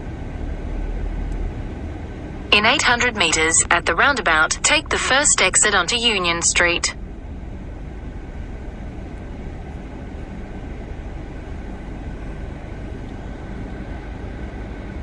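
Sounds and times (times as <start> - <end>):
car cabin road and engine rumble: 0.0 - 15.0
faint steady whine: 0.0 - 15.0.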